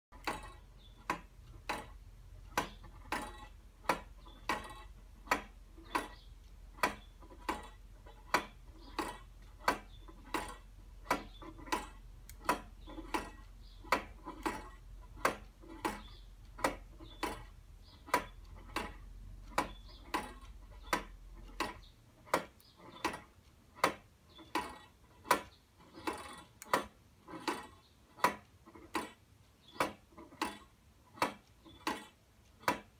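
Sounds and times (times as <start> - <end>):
clock escapement ticking: 0.1 - 32.9.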